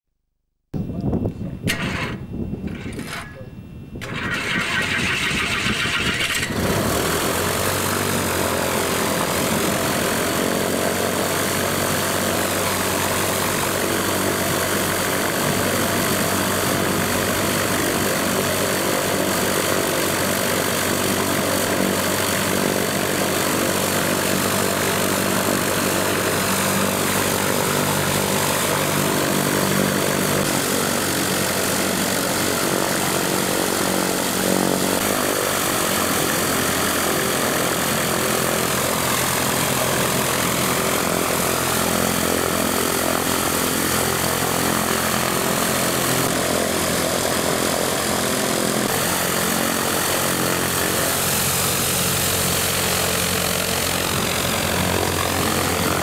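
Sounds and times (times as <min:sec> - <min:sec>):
light aircraft engine droning: 0:00.8 - 0:56.0.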